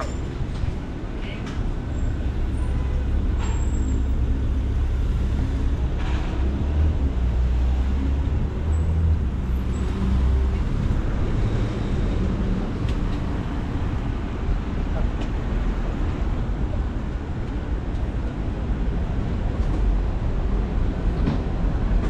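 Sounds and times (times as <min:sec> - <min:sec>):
low vehicle rumble: 0:00.0 - 0:22.0
street traffic: 0:00.0 - 0:22.0.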